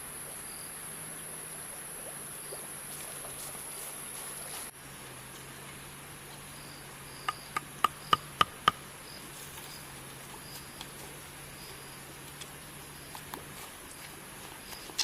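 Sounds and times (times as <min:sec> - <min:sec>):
insects trilling: 0:00.0 - 0:05.0, 0:05.8 - 0:15.0.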